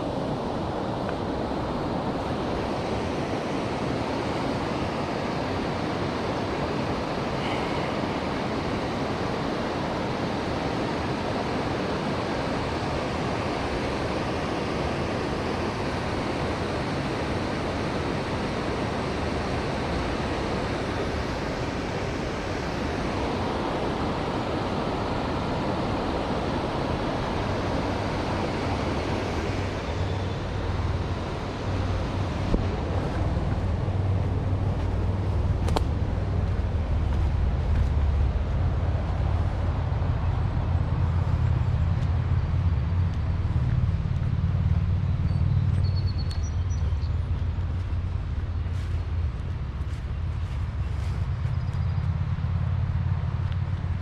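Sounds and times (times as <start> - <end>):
river water rushing: 0.0 - 51.3.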